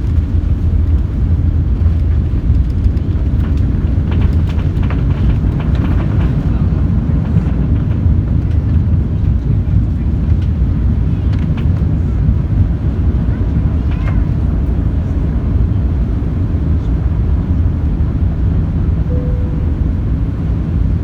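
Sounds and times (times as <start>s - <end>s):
aircraft cabin engine rumble: 0.0s - 21.0s.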